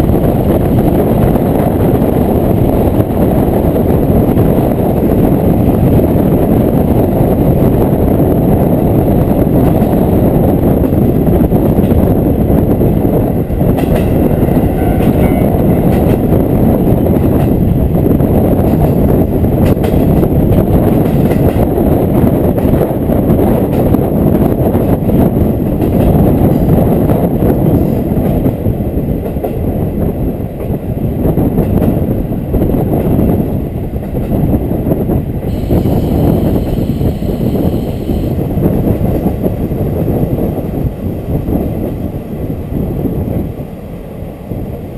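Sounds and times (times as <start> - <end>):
railcar engine and wheels rumbling: 0.0 - 44.9.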